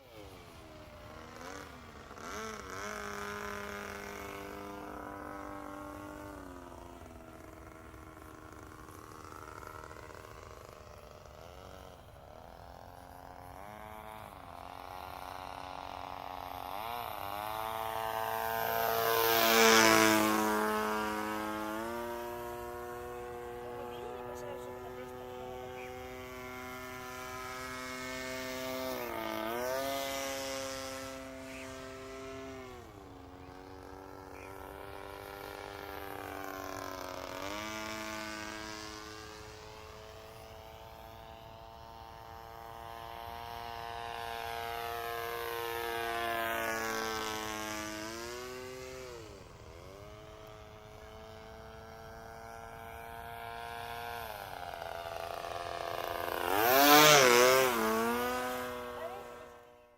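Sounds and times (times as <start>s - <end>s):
model airplane engine buzzing: 0.0s - 59.9s.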